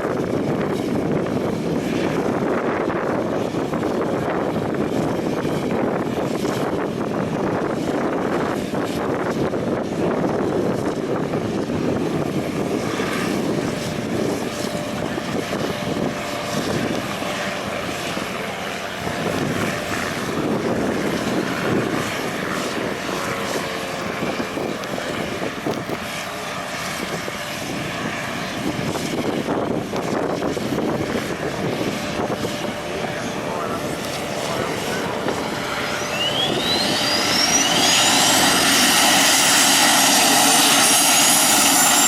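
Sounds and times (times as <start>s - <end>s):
aircraft engine noise: 0.0s - 42.0s.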